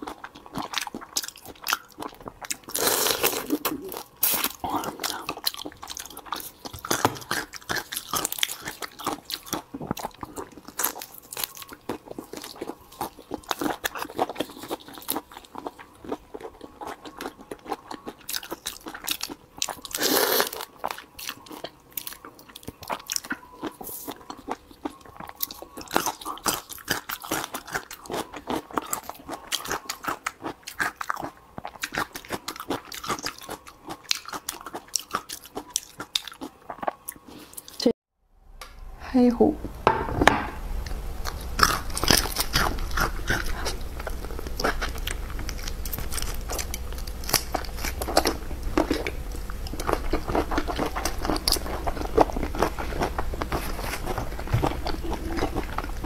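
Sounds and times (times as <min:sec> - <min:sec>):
chewing and crunching shrimp: 0:00.0 - 0:37.9, 0:41.2 - 0:56.0.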